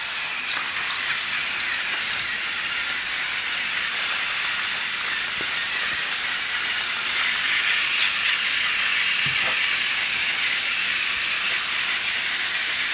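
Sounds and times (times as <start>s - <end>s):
toy train motors whirring: 0.0s - 12.9s.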